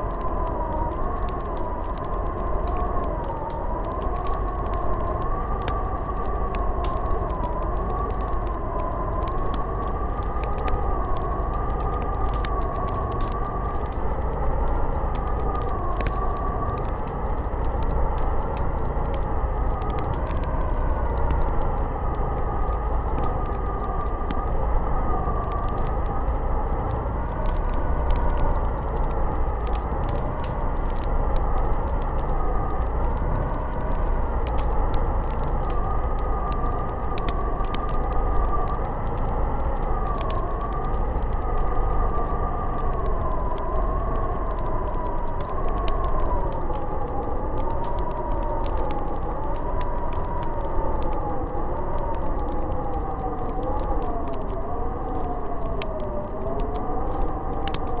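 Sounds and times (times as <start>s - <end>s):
wind howling: 0.0s - 58.0s.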